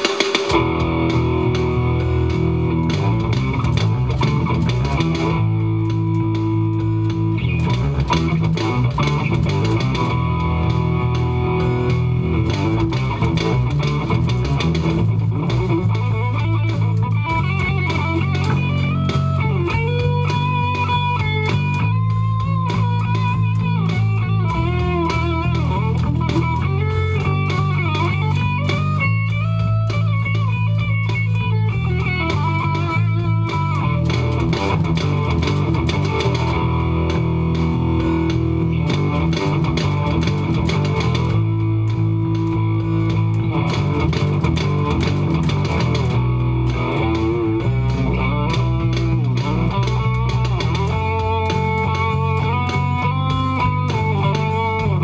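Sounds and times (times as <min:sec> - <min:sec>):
electric bass: 0:00.0 - 0:55.0
electric guitar melody: 0:00.0 - 0:55.0.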